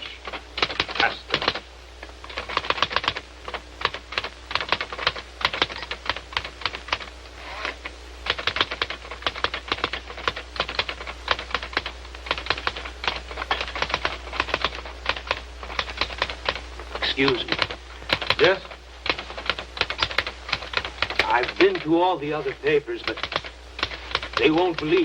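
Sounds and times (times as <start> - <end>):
typewriter keystrokes: 0.2 - 1.6, 2.2 - 7.1, 8.2 - 25.0.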